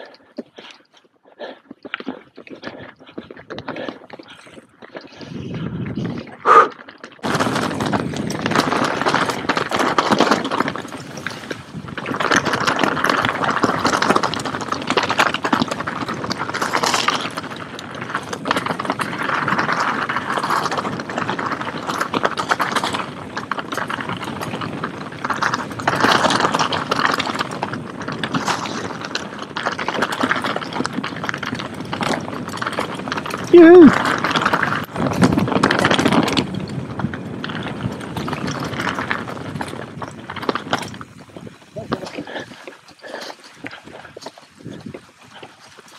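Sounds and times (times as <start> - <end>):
bike rattling over rocky trail: 0.0 - 45.9.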